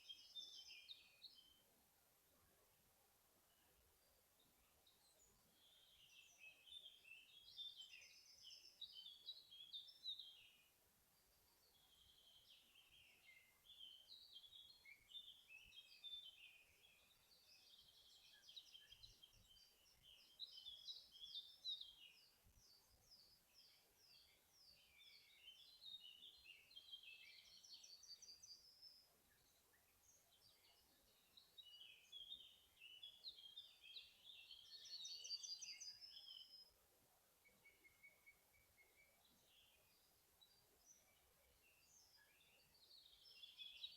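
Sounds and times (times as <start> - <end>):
songbirds twittering: 0.0 - 1.7, 3.4 - 43.9.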